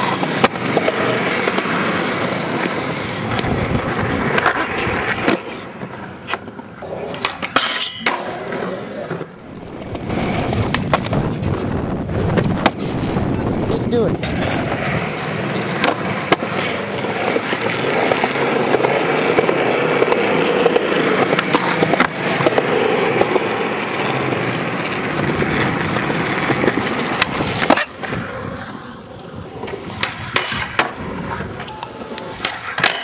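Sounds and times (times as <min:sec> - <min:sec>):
sharp skateboard clack: 0:00.0 - 0:13.4, 0:14.1 - 0:33.0
skateboard clicks: 0:00.0 - 0:13.4, 0:14.2 - 0:33.0
skateboard wheels rolling on concrete: 0:00.0 - 0:33.0.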